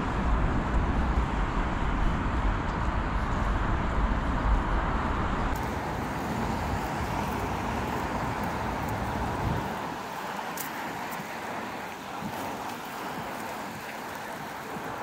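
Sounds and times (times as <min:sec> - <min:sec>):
city traffic hiss: 0:00.0 - 0:15.0
wind on microphone: 0:00.0 - 0:15.0.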